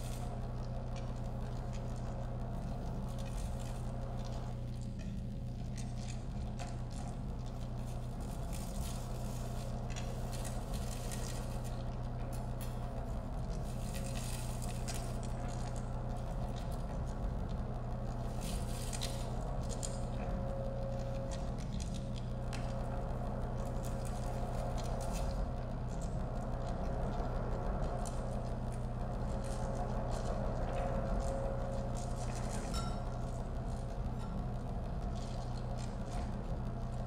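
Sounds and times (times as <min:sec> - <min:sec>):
low electronic drone: 0:00.0 - 0:37.0
scraping and crackling textures: 0:00.0 - 0:37.0.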